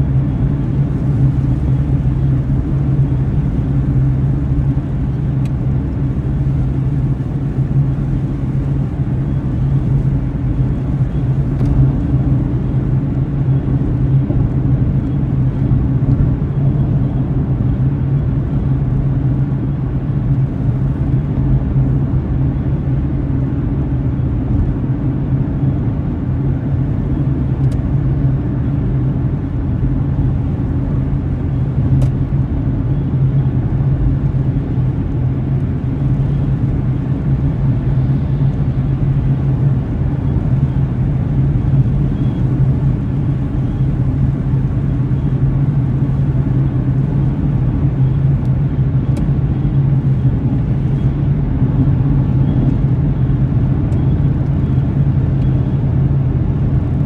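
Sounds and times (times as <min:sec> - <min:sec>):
car driving drone: 0:00.0 - 0:57.0.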